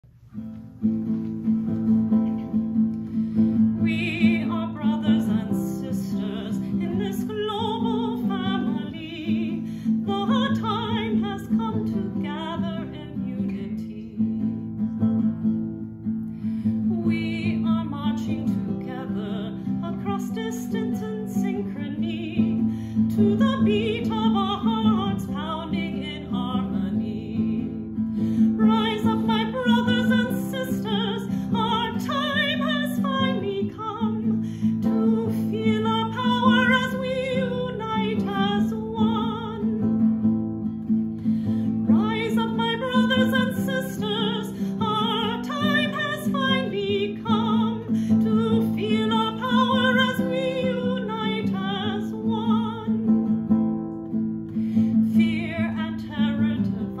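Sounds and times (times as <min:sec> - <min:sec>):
acoustic guitar: 0:00.0 - 0:57.0
woman singing: 0:03.5 - 0:15.6, 0:16.7 - 0:54.0, 0:54.8 - 0:57.0.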